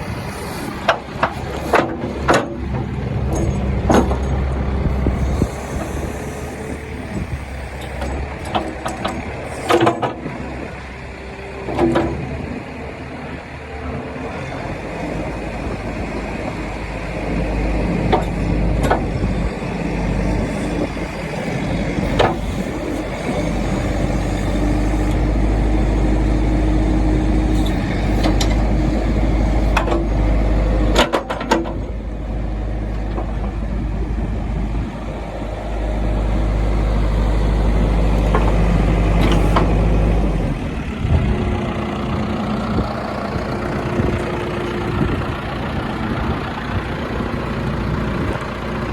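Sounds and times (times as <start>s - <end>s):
backhoe diesel engine running: 0.0s - 48.9s.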